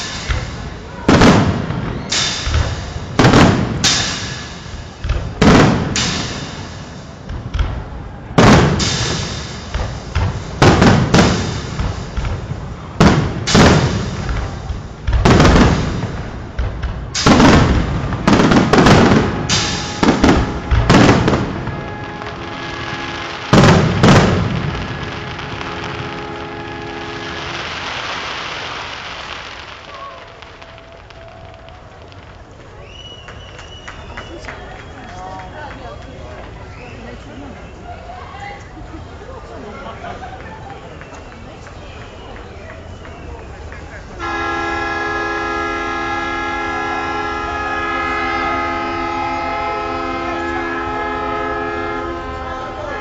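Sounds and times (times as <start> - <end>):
fireworks bursting: 0.0 - 37.8, 40.2 - 53.0.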